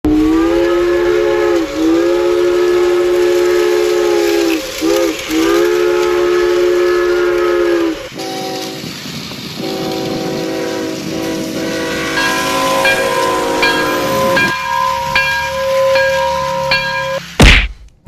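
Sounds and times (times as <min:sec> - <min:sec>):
train whistle blasts: 0:00.1 - 0:08.9, 0:09.6 - 0:17.4.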